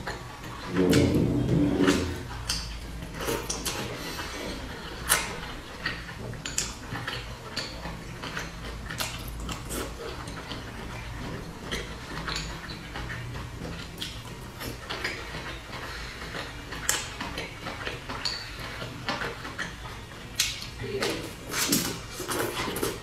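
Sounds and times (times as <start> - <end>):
wet chewing and lip-smacking: 0.0 - 1.1, 1.8 - 23.0.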